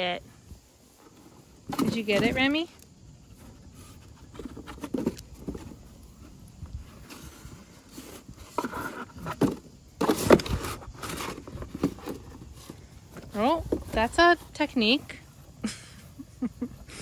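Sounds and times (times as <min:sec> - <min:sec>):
cardboard rustling and scraping: 0:00.8 - 0:15.3.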